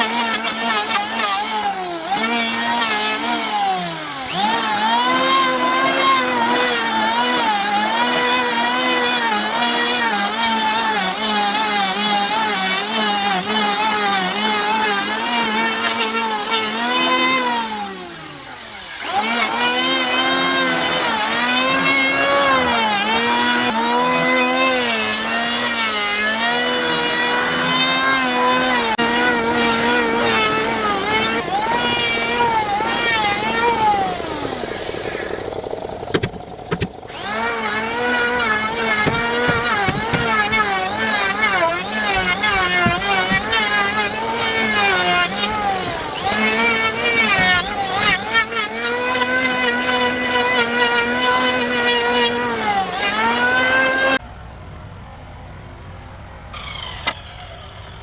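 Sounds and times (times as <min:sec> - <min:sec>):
power tool cutting wood: 0:00.0 - 0:54.2, 0:56.6 - 0:58.0.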